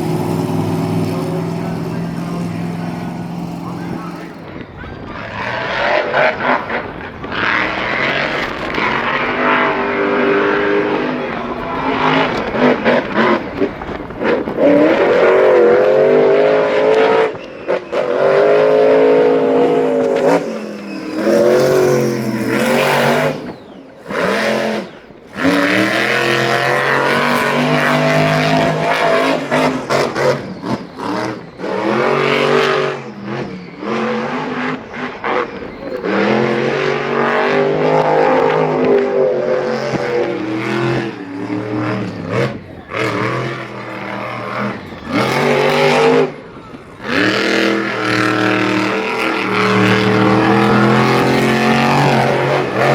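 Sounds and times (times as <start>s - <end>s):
racing engine revving: 0.0s - 52.9s.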